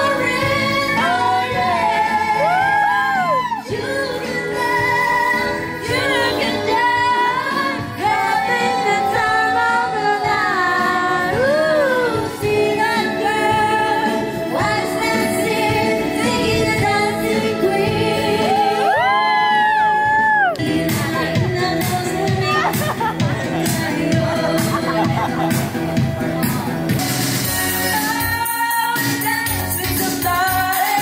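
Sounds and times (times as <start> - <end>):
woman singing: 0.0 - 25.5, 27.7 - 31.0
pop music: 0.0 - 31.0.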